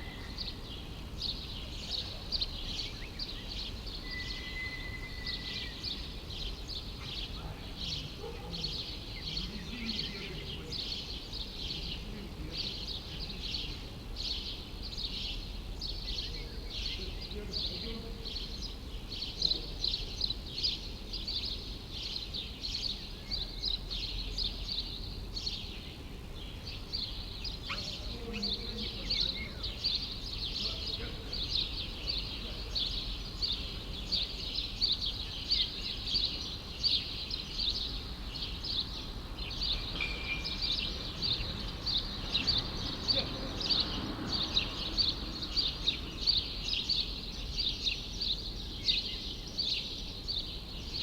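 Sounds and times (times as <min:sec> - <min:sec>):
birds chirping: 0:00.0 - 0:51.0
low city rumble: 0:00.0 - 0:51.0.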